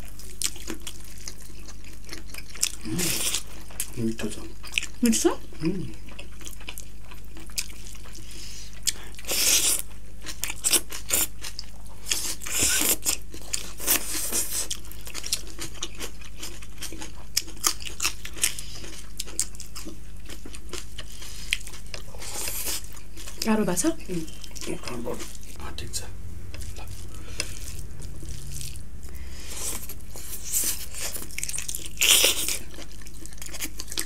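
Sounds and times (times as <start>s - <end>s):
chewing with wet smacks: 0.0s - 23.5s, 26.5s - 34.0s
crunchy chewing: 0.0s - 23.5s, 24.2s - 25.9s, 26.5s - 34.0s.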